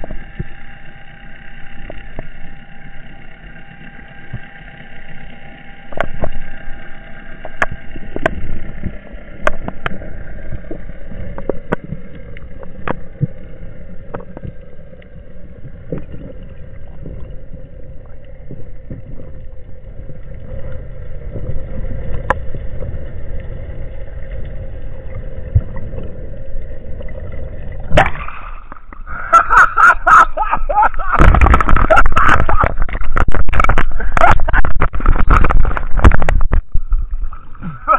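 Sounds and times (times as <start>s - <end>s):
low underwater rumble: 0.0s - 37.9s
steady hum: 0.0s - 37.9s.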